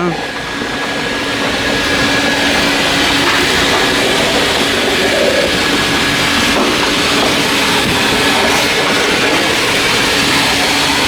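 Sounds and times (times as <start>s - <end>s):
foamy water hissing through brush: 0.0s - 11.0s.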